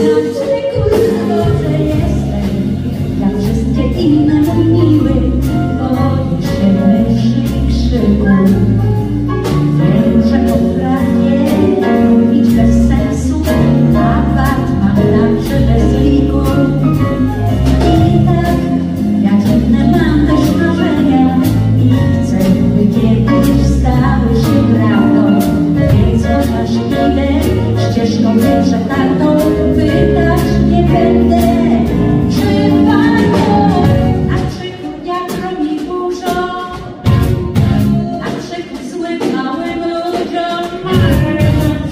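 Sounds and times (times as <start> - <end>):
live pop band playing: 0.0 - 41.9.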